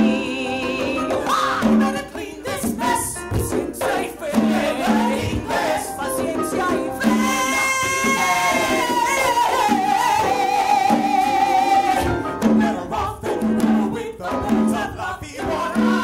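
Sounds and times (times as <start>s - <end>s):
piano accompaniment: 0.0s - 16.0s
woman singing with vibrato: 0.0s - 16.0s.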